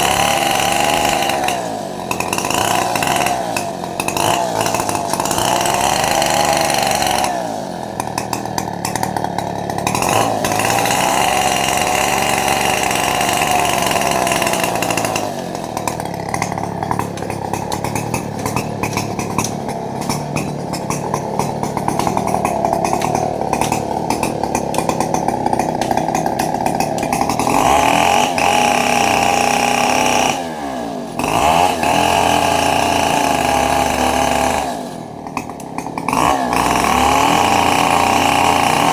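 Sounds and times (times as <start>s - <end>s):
chainsaw cutting tree limbs: 0.0s - 38.9s.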